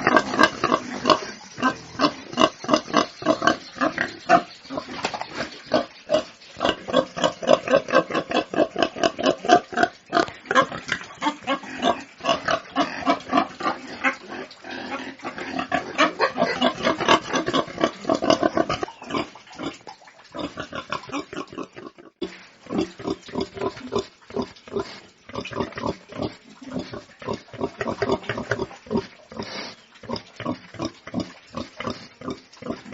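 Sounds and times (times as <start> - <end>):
pigs grunting and squealing: 0.0 - 32.9.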